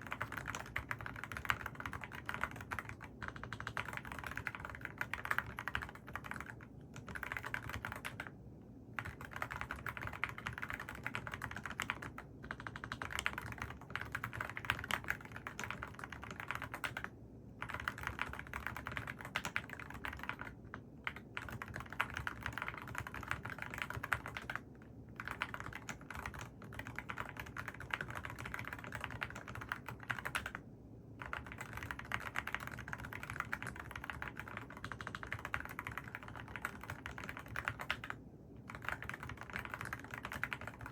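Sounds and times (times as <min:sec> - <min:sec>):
mechanical keyboard typing: 0:00.0 - 0:08.3, 0:09.0 - 0:30.6, 0:31.2 - 0:40.9.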